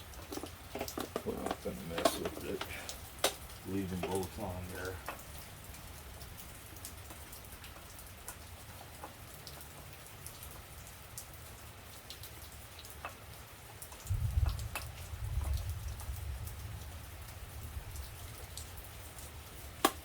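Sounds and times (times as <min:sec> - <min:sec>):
rain patter: 0:00.0 - 0:20.0.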